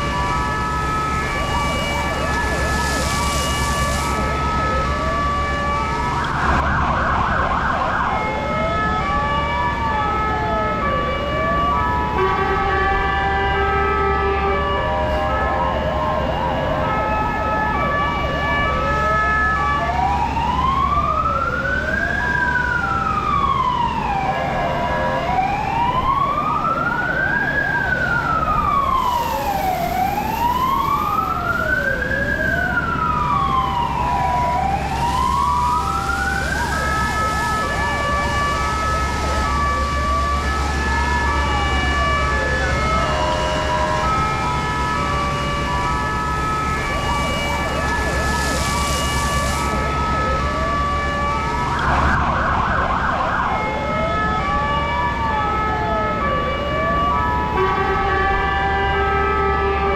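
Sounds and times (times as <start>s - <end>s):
fire engine sirens: 0.0s - 59.9s.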